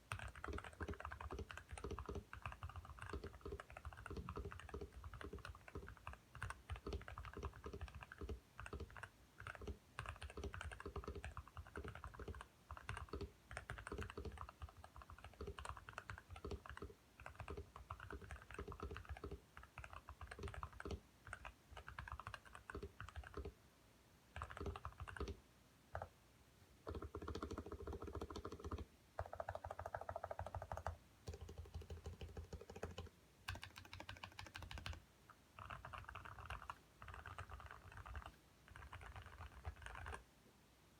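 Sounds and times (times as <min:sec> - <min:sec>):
computer keyboard typing: 0:00.0 - 0:23.6, 0:24.4 - 0:26.1, 0:26.8 - 0:35.0, 0:35.6 - 0:40.2.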